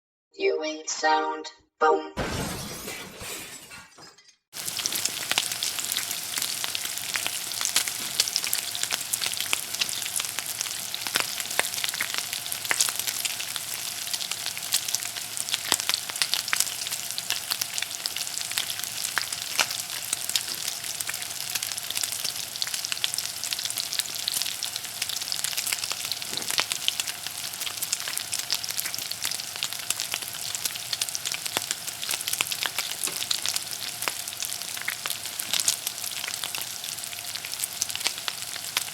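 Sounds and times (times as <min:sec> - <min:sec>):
hot oil sizzling and crackling: 0:04.6 - 0:38.9.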